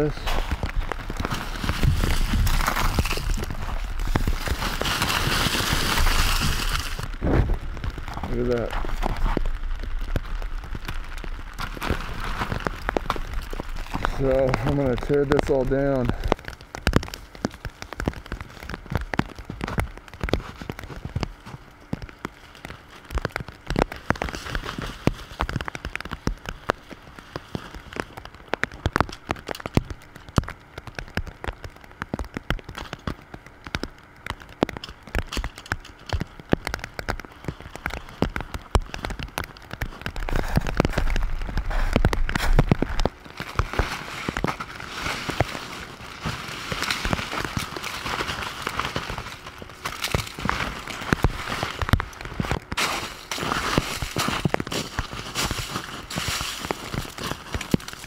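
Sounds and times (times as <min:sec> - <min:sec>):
freezing rain pattering on tarp: 0:00.0 - 0:58.0
stiff tarp rustling and crinkling: 0:00.0 - 0:58.0.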